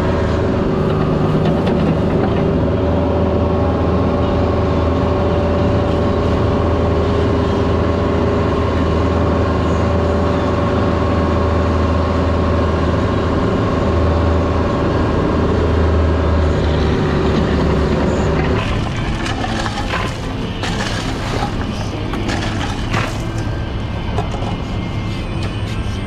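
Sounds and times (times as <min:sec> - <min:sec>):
diesel engine running steadily: 0:00.0 - 0:26.0.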